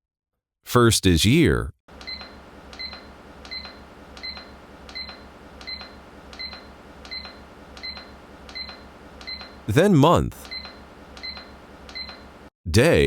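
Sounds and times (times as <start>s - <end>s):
alarm clock beeping: 1.9s - 12.5s
faint low hum: 1.9s - 12.5s.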